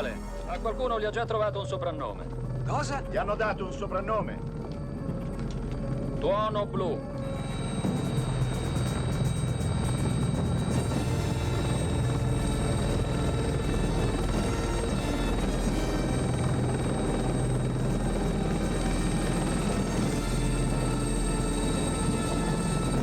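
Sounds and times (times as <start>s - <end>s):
film music: 0.0s - 23.0s
helicopter rotor beat: 0.0s - 23.0s.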